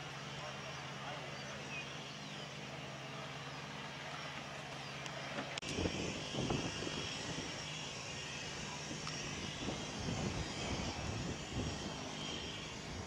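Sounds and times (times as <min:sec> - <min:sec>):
distant propeller airplane engine: 0:00.0 - 0:13.0.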